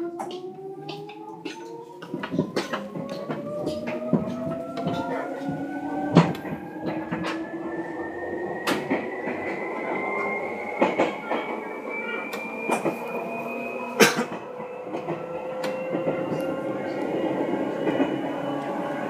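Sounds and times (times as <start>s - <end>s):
electric train motor whine: 2.0s - 19.0s.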